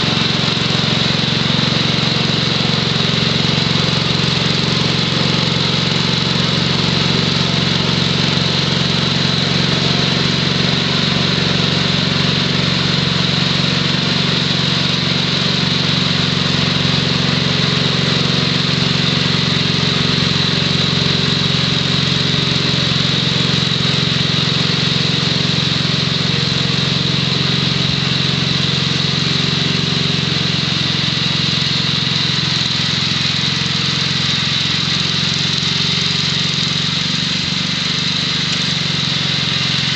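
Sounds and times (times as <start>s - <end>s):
snowthrower engine running: 0.0s - 39.9s.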